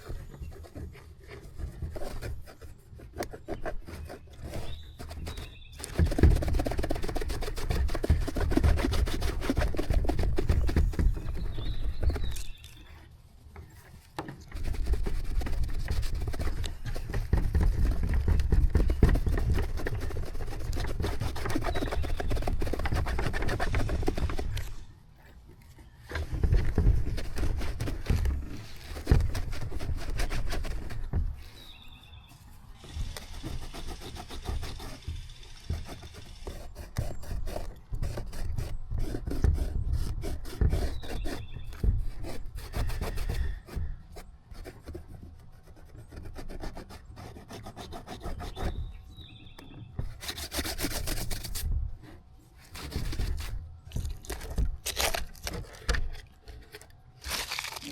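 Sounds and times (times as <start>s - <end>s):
rubbing and scrubbing plastic lens: 0.0s - 57.9s.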